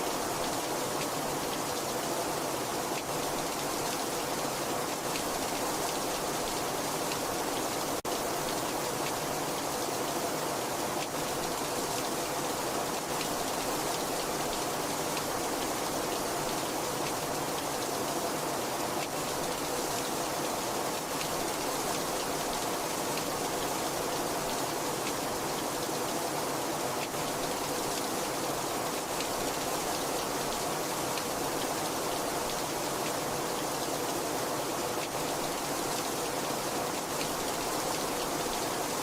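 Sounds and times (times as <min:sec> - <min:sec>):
very heavy rain falling: 0:00.0 - 0:39.0.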